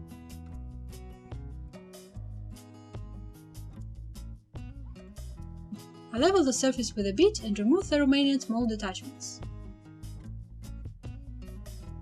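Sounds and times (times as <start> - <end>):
background music with bass: 0.0 - 12.0.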